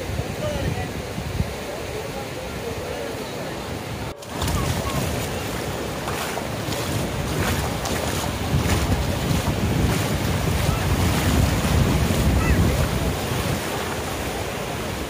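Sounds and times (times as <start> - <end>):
wind buffeting microphone: 0.0 - 2.8, 3.8 - 15.0
sea surf rushing: 0.0 - 15.0.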